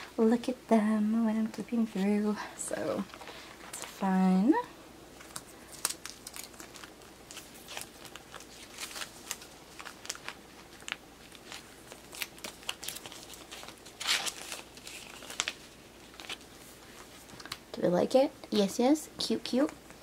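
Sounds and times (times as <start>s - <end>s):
plastic sleeves crinkling: 1.5s - 17.8s.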